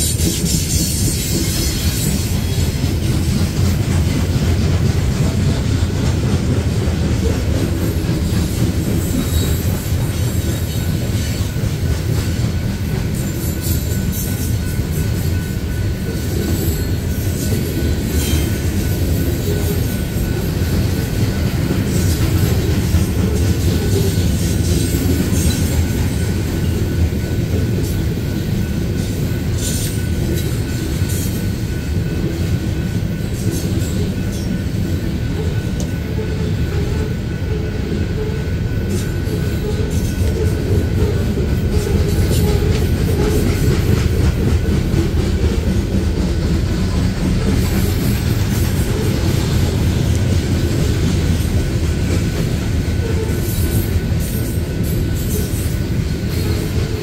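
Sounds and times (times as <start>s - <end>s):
train cars rumbling on rails: 0.0s - 57.0s.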